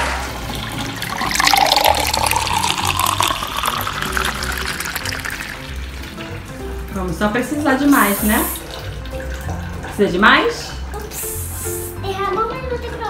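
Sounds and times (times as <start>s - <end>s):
water pouring into a tube: 0.0s - 12.3s.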